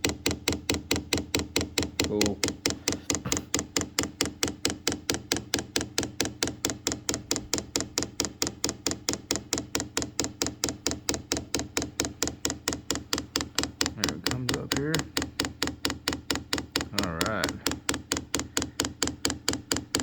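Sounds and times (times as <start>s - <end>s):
fuel pump ticking: 0.0s - 20.0s.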